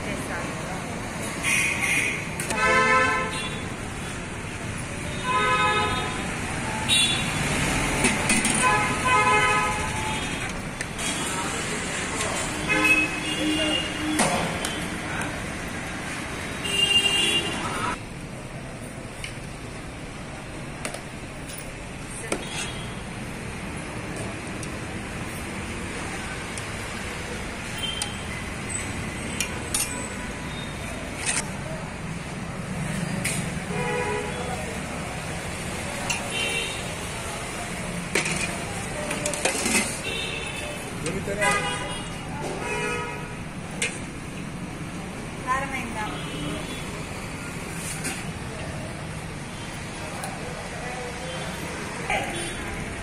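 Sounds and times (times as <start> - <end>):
outdoor background noise: 0.0 - 53.0
road traffic noise: 0.0 - 53.0.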